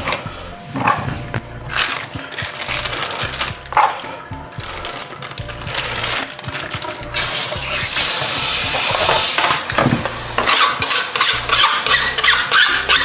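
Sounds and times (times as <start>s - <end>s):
tap water running: 1.8s - 13.0s.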